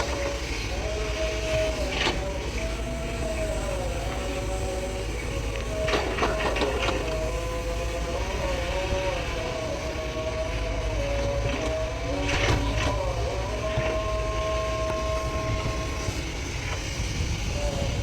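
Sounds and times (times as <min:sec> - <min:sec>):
excavator engine under load: 0:00.0 - 0:18.0.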